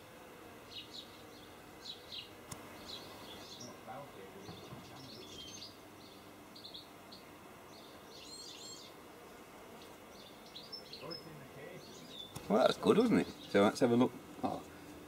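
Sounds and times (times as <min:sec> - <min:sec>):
quiet outdoor hiss: 0:00.0 - 0:15.0
small birds chirping: 0:00.6 - 0:15.0.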